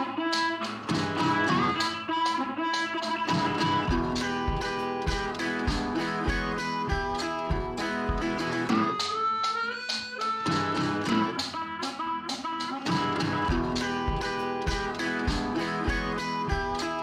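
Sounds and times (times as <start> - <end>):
guitar-led tune with beat: 0.0 - 17.0.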